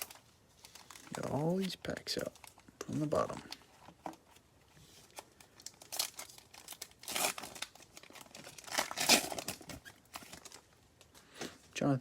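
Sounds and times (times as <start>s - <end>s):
wrapper tearing and crinkling: 0.0s - 4.2s, 5.0s - 10.8s.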